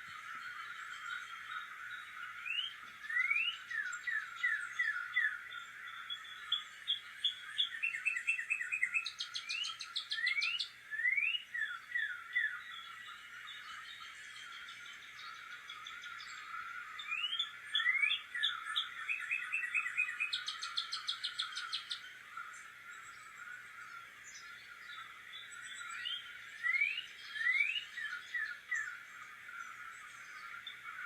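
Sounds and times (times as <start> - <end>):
songbirds singing and calling: 0.0 - 31.0.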